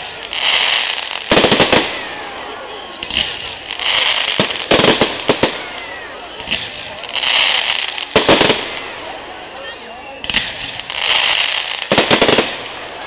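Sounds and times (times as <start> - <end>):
fireworks bangs: 0.0 - 9.5, 10.2 - 13.0
fireworks crackling hiss: 0.0 - 9.6, 10.2 - 13.0.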